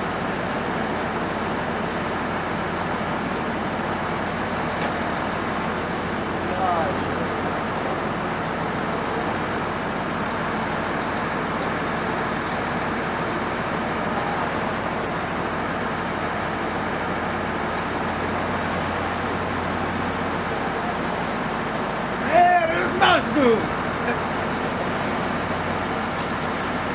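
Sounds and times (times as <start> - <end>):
engine and traffic rumble: 0.0 - 26.9.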